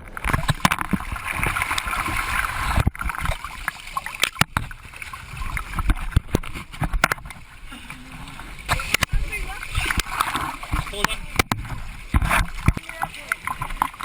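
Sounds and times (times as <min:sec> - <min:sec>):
sea water splashing: 0:00.0 - 0:14.0.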